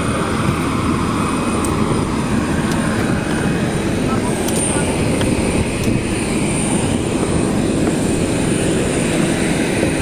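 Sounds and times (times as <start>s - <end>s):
turbine engine whine and rumble: 0.0s - 10.0s.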